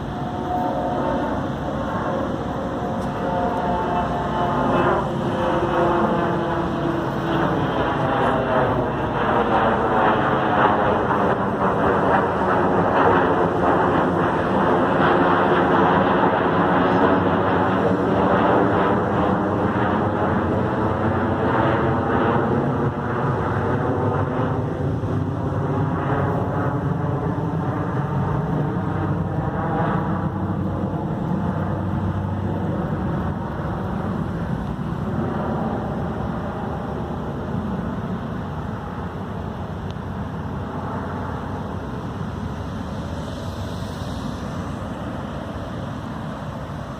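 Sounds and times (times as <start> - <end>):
aircraft passing overhead: 0.0 - 46.9.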